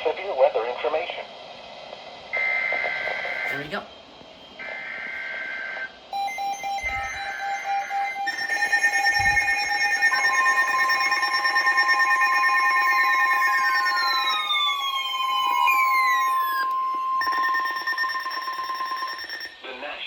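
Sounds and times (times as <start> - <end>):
pulsing alarm tones: 2.4 - 3.8, 4.6 - 19.7
weather radio warning alarm tone: 2.4 - 3.9, 4.6 - 19.7.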